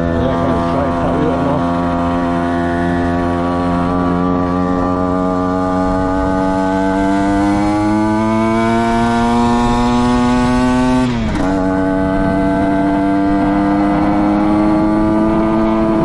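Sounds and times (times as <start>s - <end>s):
motorcycle engine revving under load: 0.0s - 16.0s.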